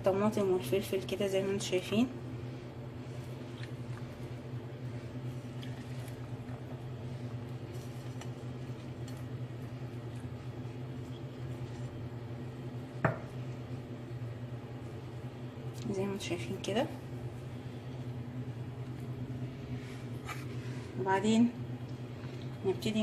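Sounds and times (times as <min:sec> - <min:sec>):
kitchen appliance humming: 0:00.0 - 0:23.0.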